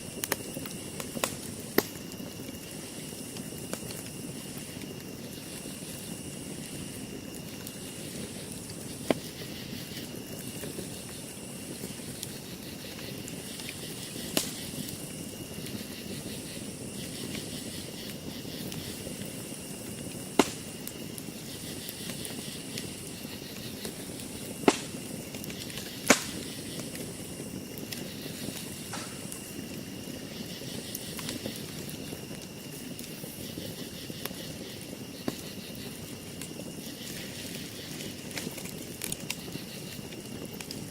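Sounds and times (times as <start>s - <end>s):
burning wood popping: 0.0s - 40.9s
campfire hissing: 0.0s - 40.9s.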